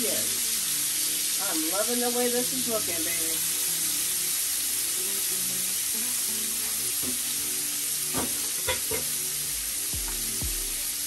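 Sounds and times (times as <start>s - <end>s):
shrimp sizzling in fat: 0.0s - 11.0s.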